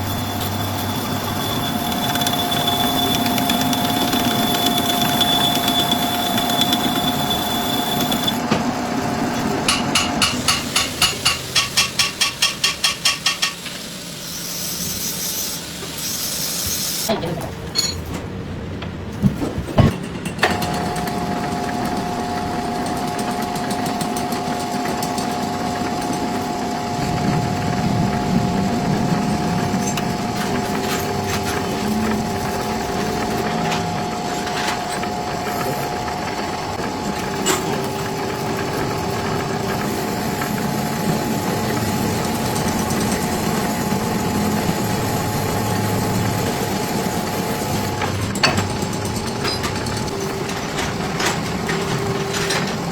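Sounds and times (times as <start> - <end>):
workshop machine whining: 0.0 - 52.9.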